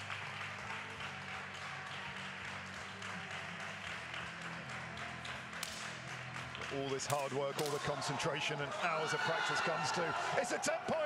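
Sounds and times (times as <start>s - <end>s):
murmur of spectators: 0.0s - 11.0s.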